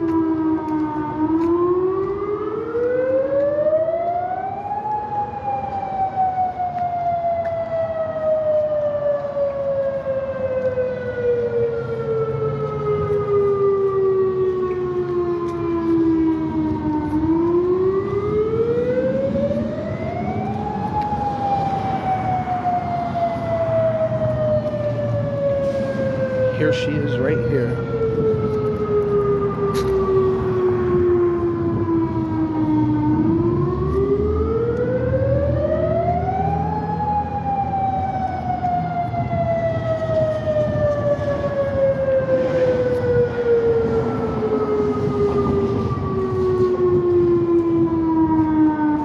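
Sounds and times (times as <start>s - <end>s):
warning siren wailing: 0.0s - 49.0s.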